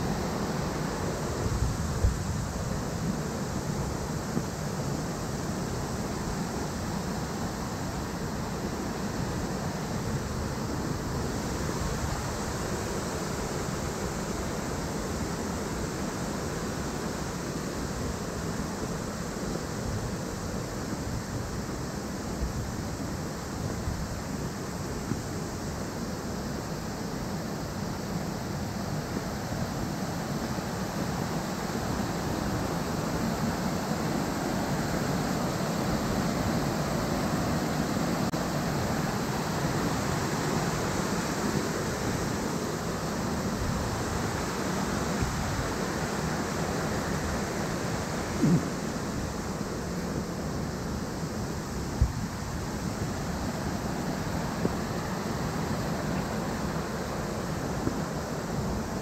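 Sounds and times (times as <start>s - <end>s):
stream rushing over boulders: 0.0s - 59.0s.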